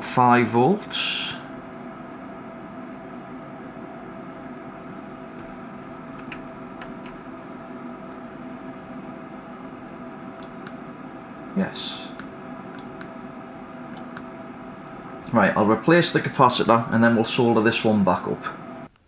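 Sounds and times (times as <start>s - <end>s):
electrical hum: 0.0s - 19.0s
faint whine: 0.0s - 19.0s.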